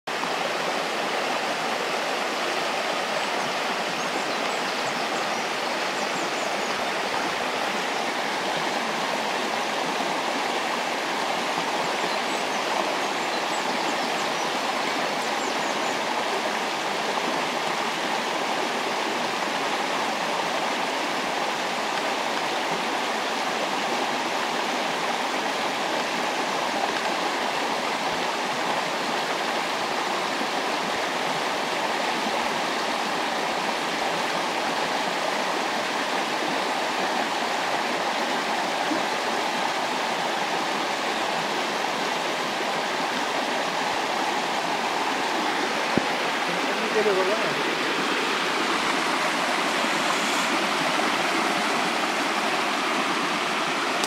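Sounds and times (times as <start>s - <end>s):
river flowing over stones: 0.1s - 54.0s.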